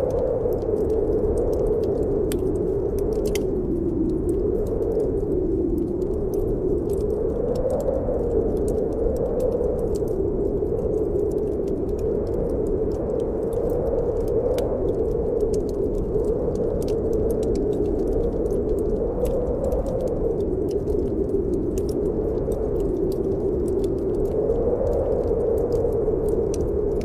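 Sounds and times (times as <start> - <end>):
snowstorm wind blowing: 0.0 - 27.0
wood fire crackling: 0.0 - 27.0.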